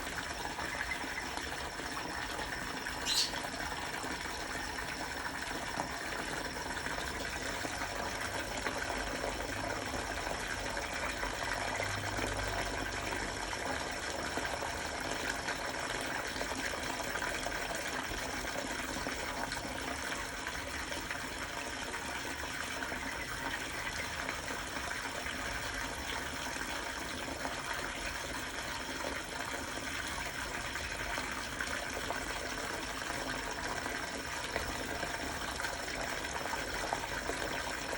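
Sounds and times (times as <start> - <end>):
running water: 0.0 - 37.9.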